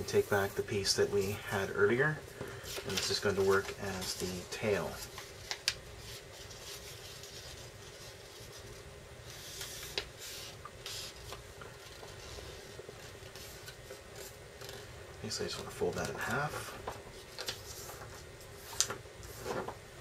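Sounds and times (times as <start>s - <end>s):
paper creasing and rustling: 0.0s - 19.8s
steady low hum: 0.0s - 20.0s.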